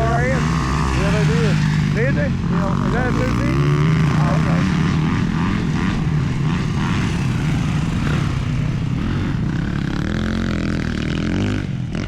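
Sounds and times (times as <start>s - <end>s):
dirt bike engines droning: 0.0s - 12.0s.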